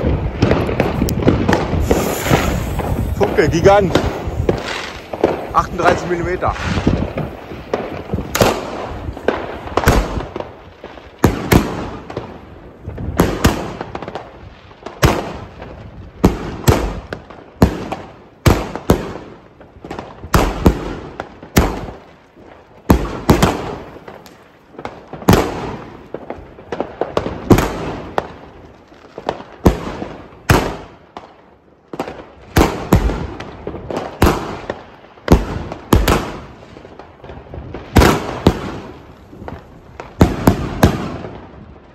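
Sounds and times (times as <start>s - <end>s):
firework shots launching: 0.0s - 19.3s, 22.9s - 28.4s, 29.2s - 31.3s, 32.0s - 41.7s.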